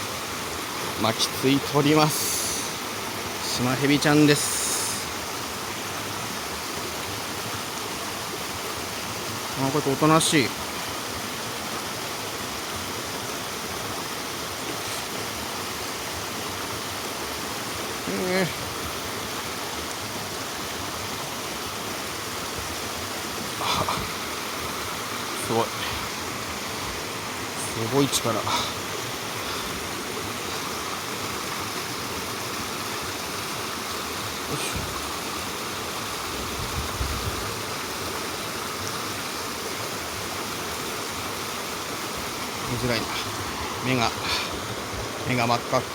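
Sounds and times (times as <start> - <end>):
mountain stream water flowing: 0.0 - 45.9.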